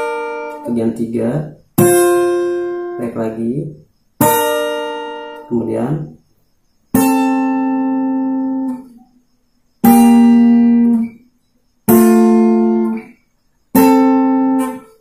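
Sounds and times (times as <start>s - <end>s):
acoustic guitar picked slowly: 0.0s - 15.0s.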